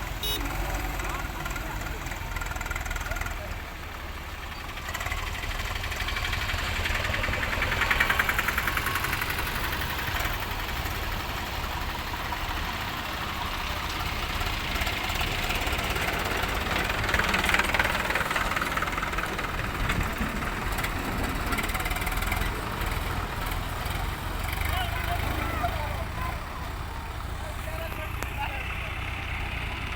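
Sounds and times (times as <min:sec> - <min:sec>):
diesel engines chugging: 0:00.0 - 0:29.9.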